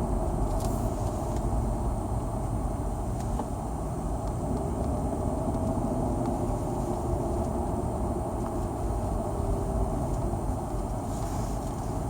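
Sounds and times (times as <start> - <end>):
car drive rumble: 0.0 - 12.0.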